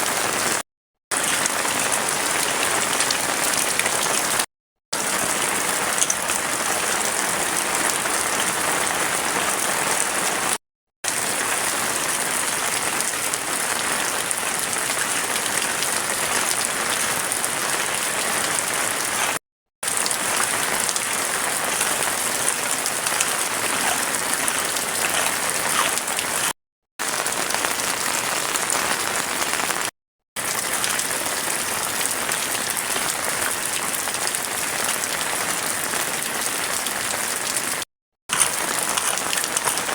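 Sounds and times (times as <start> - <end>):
heavy rain falling: 0.0 - 4.4, 5.0 - 39.9.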